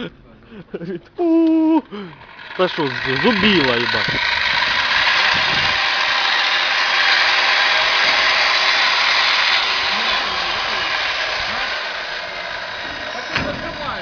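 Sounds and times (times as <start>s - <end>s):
angle grinder cutting metal: 2.0s - 14.0s.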